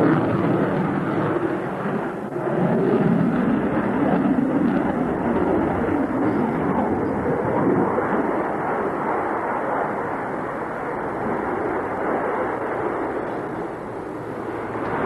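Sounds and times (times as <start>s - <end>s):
fighter jet engines rumbling: 0.0s - 15.0s.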